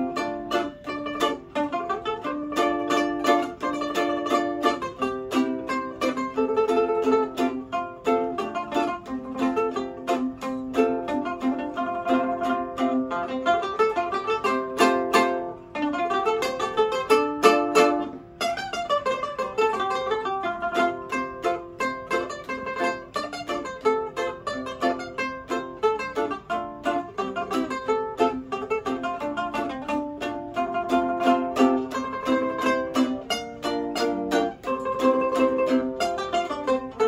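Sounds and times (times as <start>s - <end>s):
plucked lute duet: 0.0s - 37.0s.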